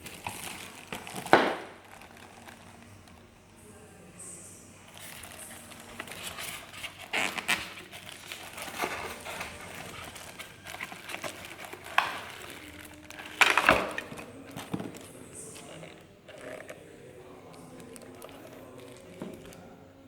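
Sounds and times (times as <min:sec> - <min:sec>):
plastic packaging crinkling: 0:00.0 - 0:03.4, 0:04.9 - 0:19.8.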